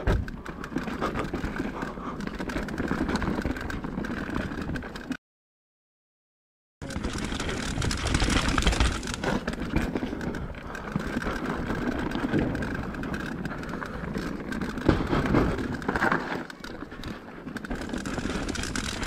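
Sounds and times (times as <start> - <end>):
tyres rolling over dirt and stones: 0.0 - 5.1, 6.8 - 19.0
bike chain and frame rattling: 0.0 - 5.2, 6.8 - 19.0.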